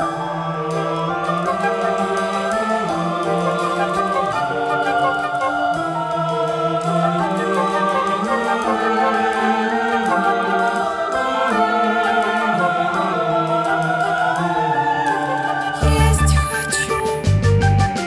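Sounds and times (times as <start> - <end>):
choral voices holding chords: 0.0 - 17.9
instruments: 0.0 - 18.0.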